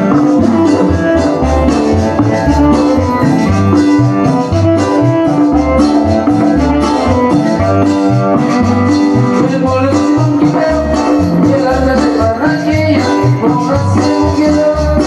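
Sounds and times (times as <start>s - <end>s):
latin dance band music: 0.0s - 15.0s.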